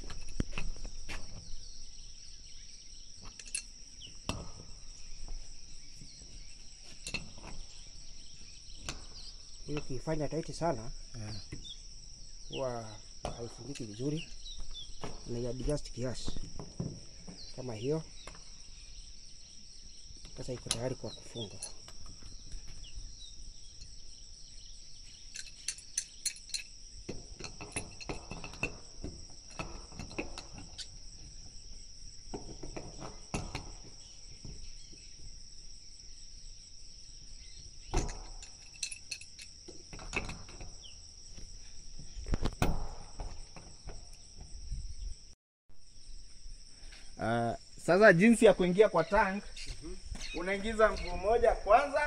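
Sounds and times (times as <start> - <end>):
handling knocks and clatter: 0.0 - 19.0, 20.2 - 35.7, 37.1 - 45.0
crickets chirping: 0.0 - 52.0.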